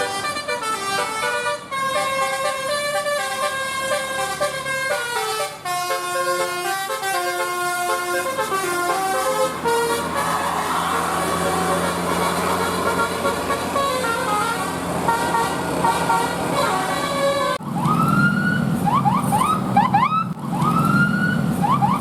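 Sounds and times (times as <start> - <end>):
multi-tone bus horn playing a tune: 0.0 - 17.6.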